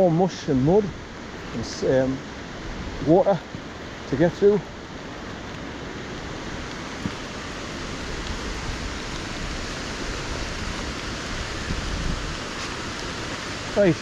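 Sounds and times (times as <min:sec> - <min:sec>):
rushing water of waterfall: 0:00.0 - 0:14.0.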